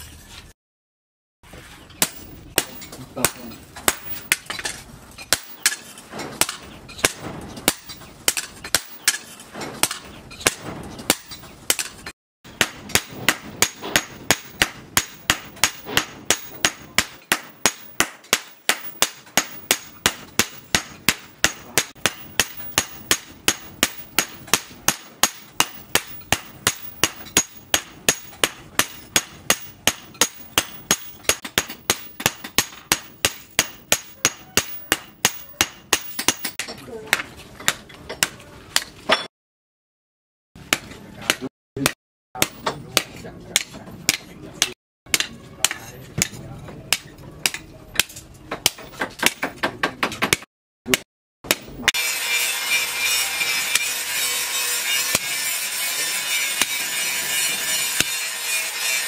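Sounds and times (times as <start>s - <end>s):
hammer striking steel on anvil: 2.0s - 39.3s, 40.7s - 49.5s, 50.2s - 59.0s.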